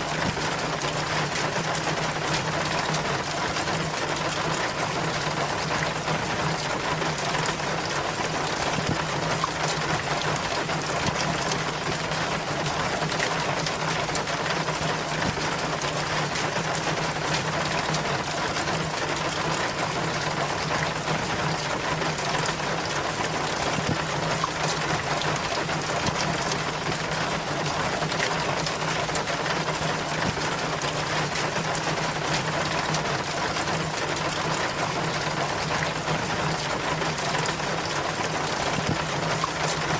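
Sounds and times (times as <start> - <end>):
rainwater splashing down rain chain: 0.0 - 39.9.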